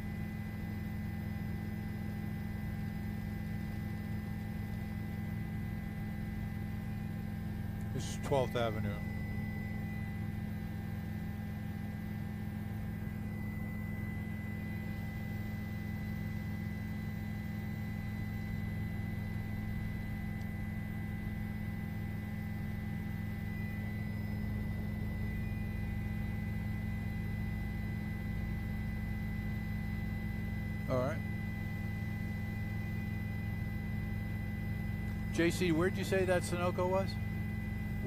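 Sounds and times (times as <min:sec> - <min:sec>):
faint steady tones: 0:00.0 - 0:38.0
helicopter cabin drone: 0:00.0 - 0:38.0.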